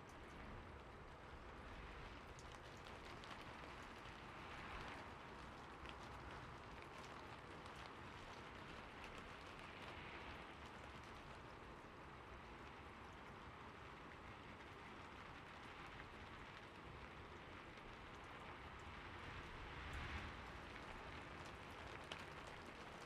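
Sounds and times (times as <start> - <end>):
falling water patter: 0.0 - 23.0.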